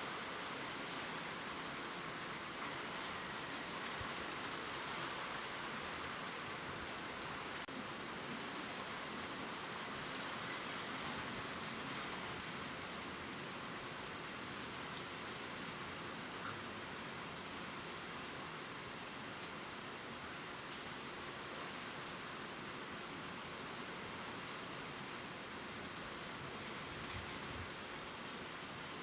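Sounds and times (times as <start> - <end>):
rain falling on leaves: 0.0 - 29.0.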